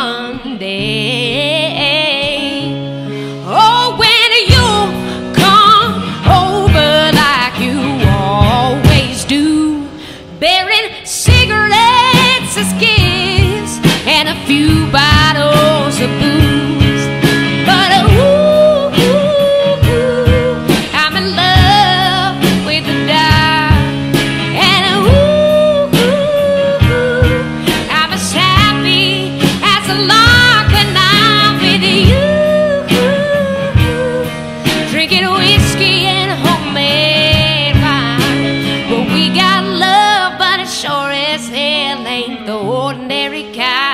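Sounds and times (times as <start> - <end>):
electric guitar: 0.0 - 43.9
woman singing with vibrato: 0.0 - 43.9.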